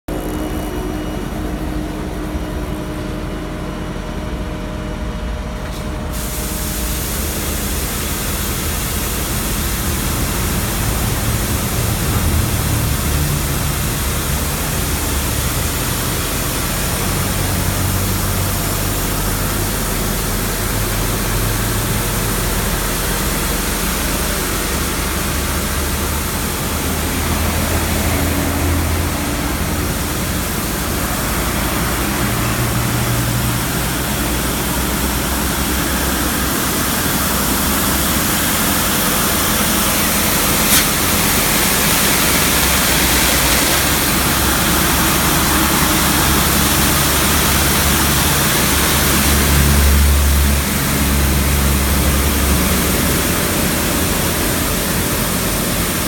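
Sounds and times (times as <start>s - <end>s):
large vehicle engine humming: 0.0s - 7.8s, 8.5s - 56.0s
loud steady hiss: 6.0s - 56.0s.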